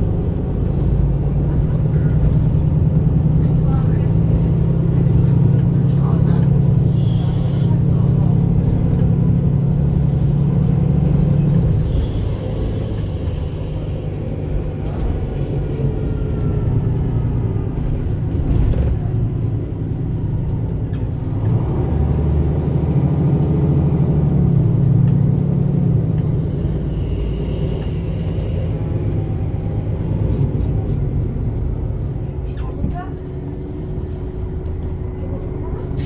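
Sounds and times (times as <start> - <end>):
bus diesel engine: 0.0 - 36.0.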